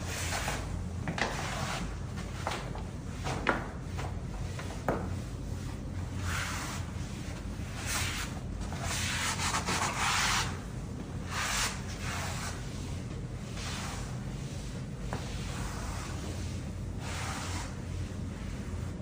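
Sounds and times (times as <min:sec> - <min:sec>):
brush swishing on wet floor: 0:00.0 - 0:19.0.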